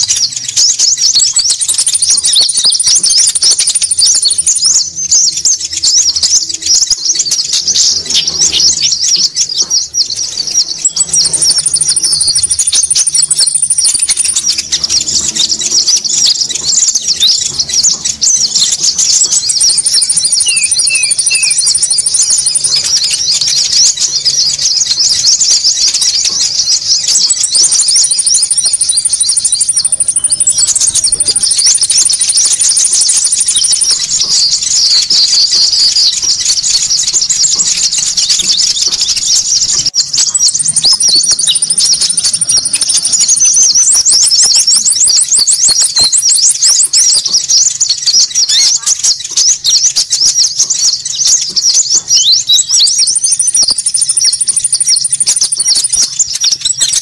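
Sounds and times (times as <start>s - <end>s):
small birds chirping: 0.0s - 57.0s
very high bird lure whistle: 0.0s - 57.0s.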